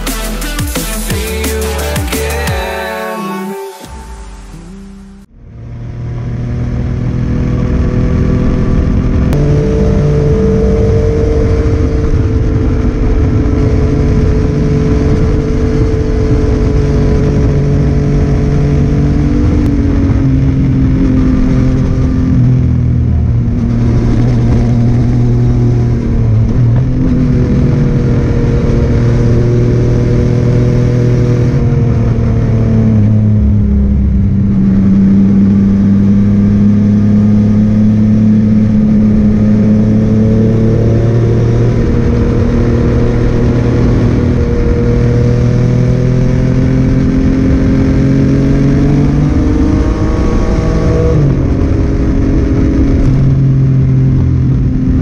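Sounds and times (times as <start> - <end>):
motorcycle engine revving: 3.9 - 55.0.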